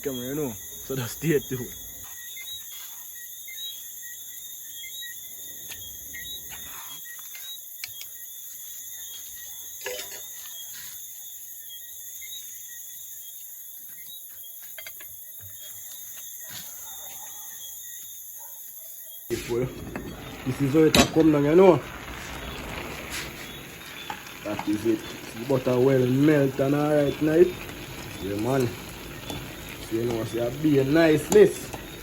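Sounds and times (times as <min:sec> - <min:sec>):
crickets chirring: 0:00.0 - 0:32.0.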